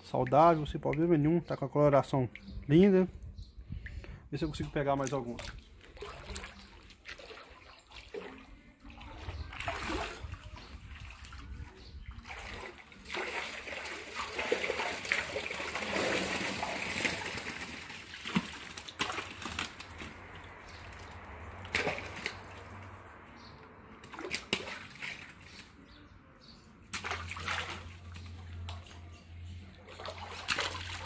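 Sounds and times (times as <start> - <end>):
water sloshing and splashing: 2.0 - 26.1, 26.8 - 31.0.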